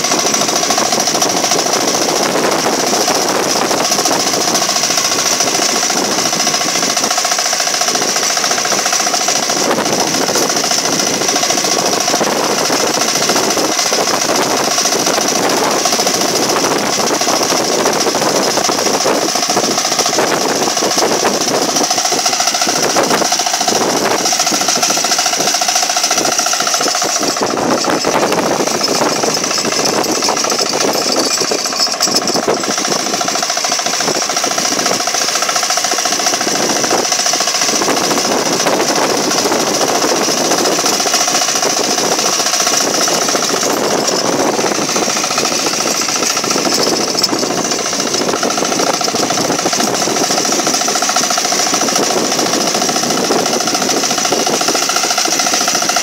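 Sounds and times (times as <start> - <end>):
small tractor engine running: 0.0 - 56.0.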